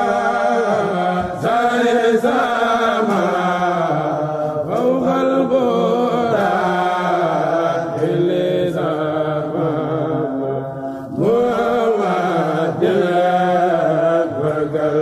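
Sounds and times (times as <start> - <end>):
men chanting unaccompanied: 0.0 - 15.0.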